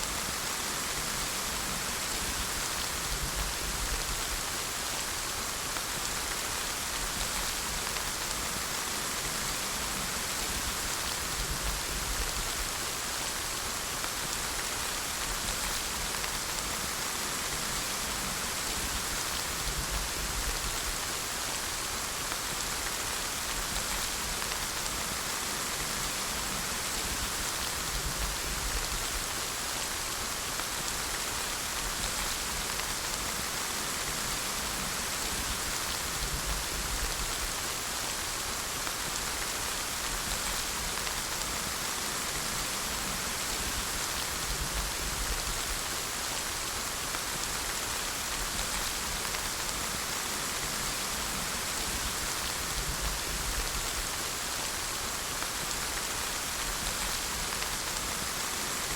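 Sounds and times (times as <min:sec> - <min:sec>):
steady rain patter: 0:00.0 - 0:58.9.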